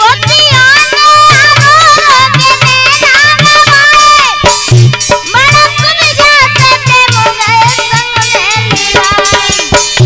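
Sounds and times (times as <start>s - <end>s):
dholak drum beat: 0.0s - 10.0s.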